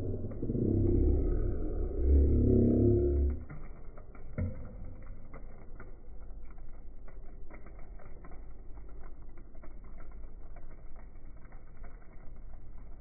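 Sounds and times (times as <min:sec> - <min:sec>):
low steady hum: 0:00.0 - 0:13.0
slime dripping into plastic tub: 0:00.1 - 0:13.0.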